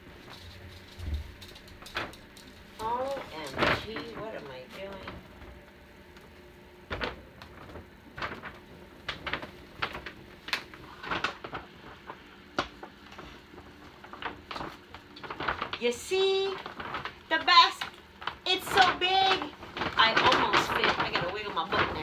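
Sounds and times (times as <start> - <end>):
paper bag rustling and crinkling: 0.0 - 22.0.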